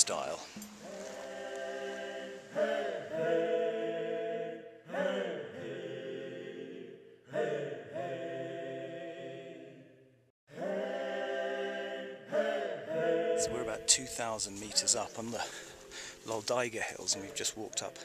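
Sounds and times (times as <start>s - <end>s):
choir singing a cappella: 0.0s - 18.0s.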